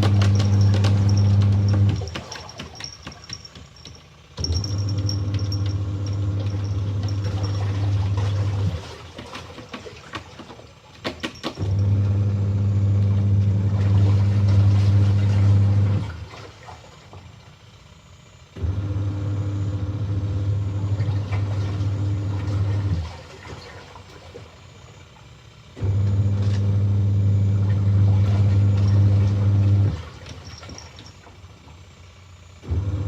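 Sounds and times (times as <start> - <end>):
washing machine motor humming: 0.0 - 33.0.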